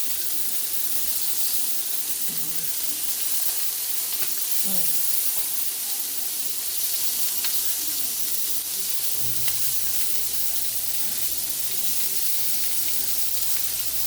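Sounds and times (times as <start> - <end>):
faint crackles: 0.0 - 14.0
meat sizzling on a grill: 0.0 - 14.0.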